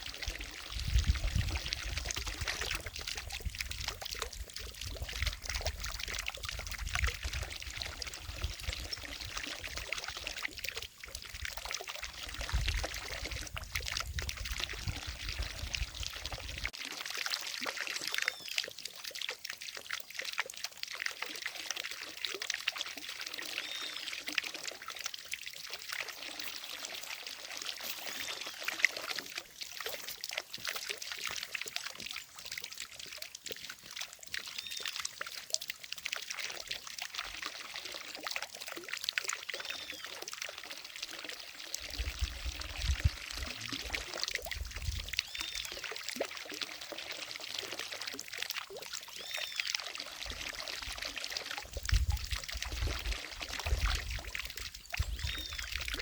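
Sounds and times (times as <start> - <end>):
fountain water splashing into lake: 0.0 - 56.0.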